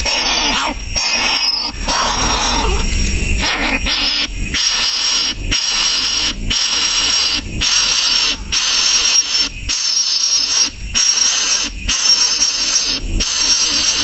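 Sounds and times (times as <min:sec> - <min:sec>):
baby bird hissing begging calls: 0:00.0 - 0:14.0.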